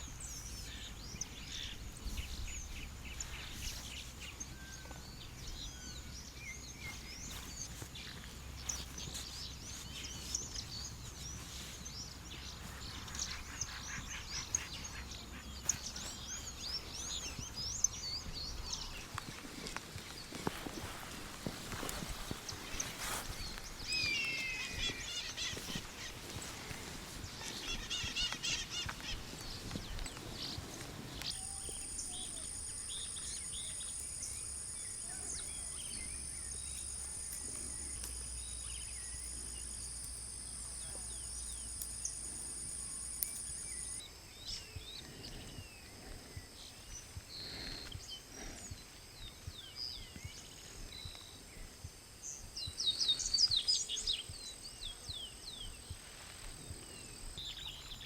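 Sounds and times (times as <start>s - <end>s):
birds chirping and calling: 0.0s - 51.4s.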